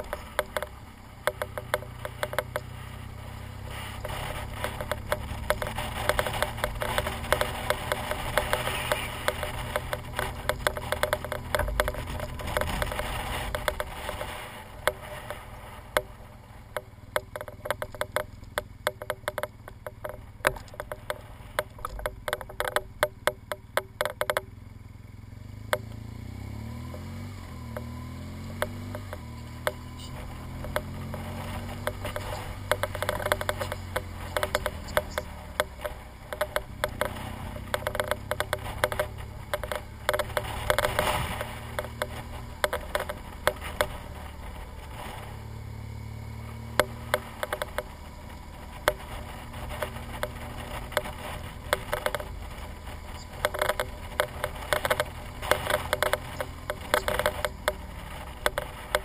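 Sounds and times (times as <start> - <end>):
motorcycle engine running: 0.0 - 59.0
sharp clicks and rattles: 0.0 - 59.0.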